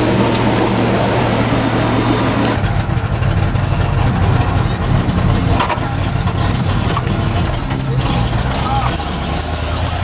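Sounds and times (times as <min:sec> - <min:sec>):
truck engine rumble: 0:00.0 - 0:10.0.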